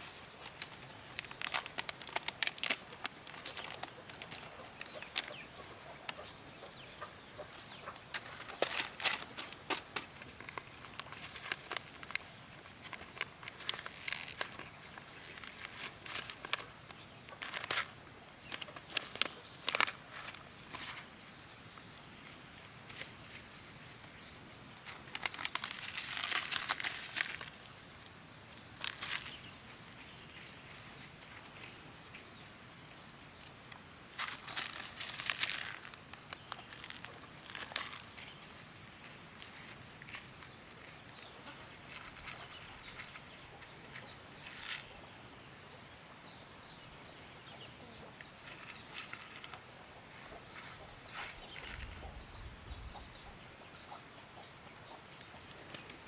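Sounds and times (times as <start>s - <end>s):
rustling and crunching of dry plants: 0.0s - 45.1s, 48.1s - 52.4s.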